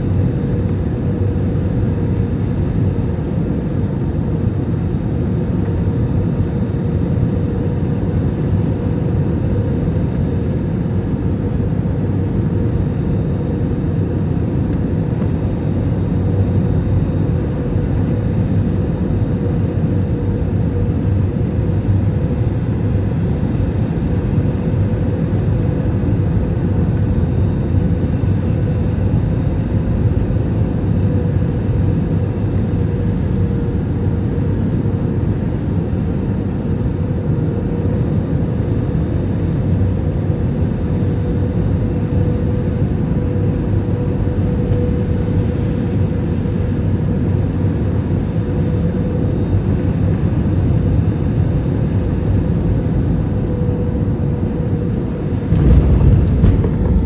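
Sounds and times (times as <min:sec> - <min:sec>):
airliner engines and airflow rumble: 0:00.0 - 0:57.0.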